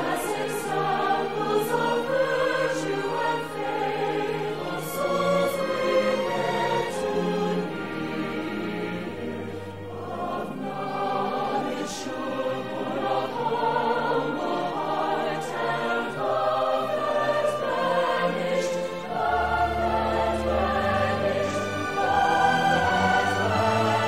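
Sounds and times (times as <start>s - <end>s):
choir singing: 0.0s - 24.0s
orchestral accompaniment: 0.0s - 24.0s.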